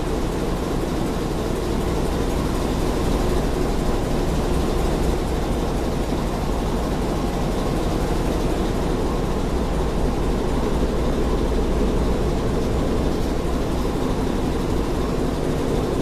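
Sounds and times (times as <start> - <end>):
engine room machinery drone: 0.0 - 16.0.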